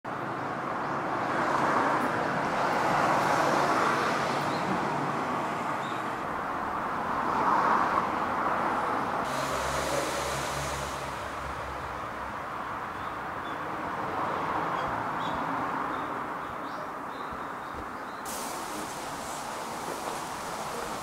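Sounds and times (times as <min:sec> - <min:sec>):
cars passing: 0:00.1 - 0:21.0.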